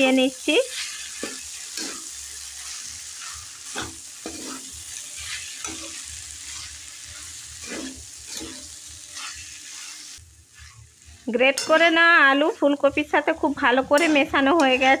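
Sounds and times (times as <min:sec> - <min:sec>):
metal spatula scraping pan: 0:00.6 - 0:12.0, 0:13.9 - 0:15.0.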